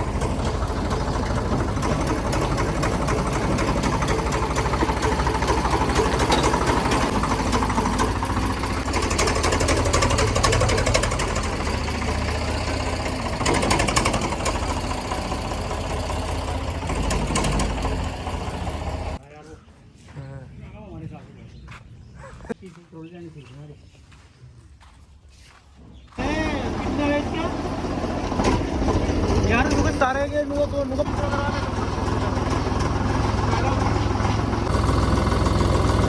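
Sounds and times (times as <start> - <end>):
tractor diesel engine knocking: 0.0 - 19.2, 26.2 - 36.0.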